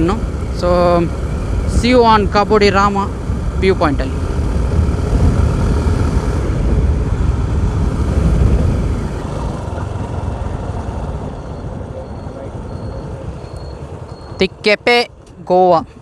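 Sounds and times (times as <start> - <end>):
road and wind noise: 0.0 - 16.0
vehicle engine rumble: 0.0 - 16.0.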